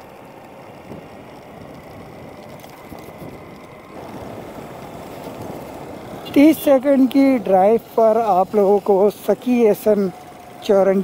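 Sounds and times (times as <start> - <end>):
vehicle driving with road noise: 0.0 - 11.0.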